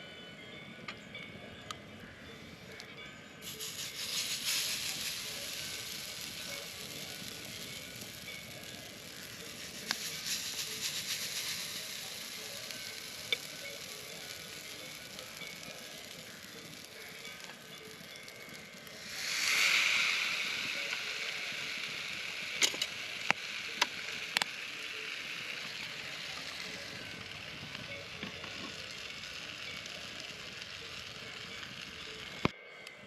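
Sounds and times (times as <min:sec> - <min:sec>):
batter sizzling in waffle iron: 0:03.4 - 0:32.5.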